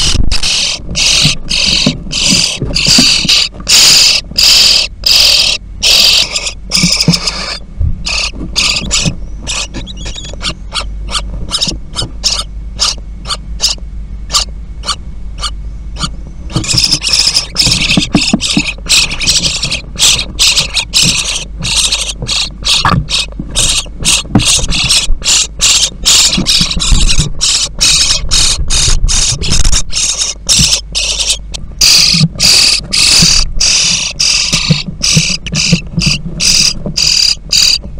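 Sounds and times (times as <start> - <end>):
nestlings begging calls: 0.0 - 37.9
steady low hum: 0.0 - 37.9.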